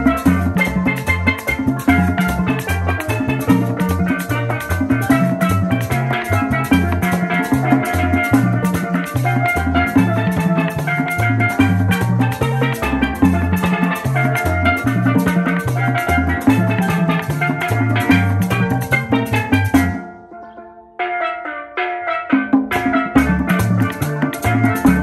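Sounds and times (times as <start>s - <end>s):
latin band music: 0.0s - 25.0s.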